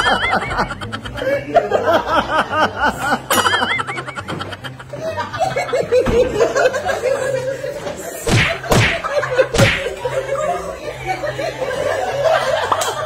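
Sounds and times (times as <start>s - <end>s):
group of people laughing: 0.0s - 13.0s.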